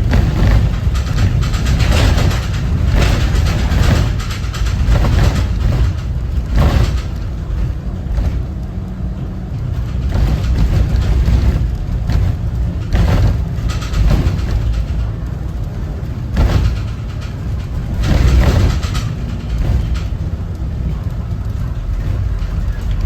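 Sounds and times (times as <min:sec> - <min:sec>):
bus diesel engine rumbling: 0:00.0 - 0:23.0.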